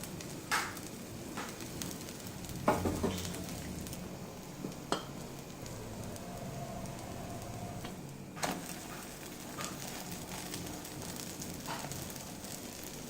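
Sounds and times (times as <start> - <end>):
batter sizzling on a pan: 0.0 - 13.0.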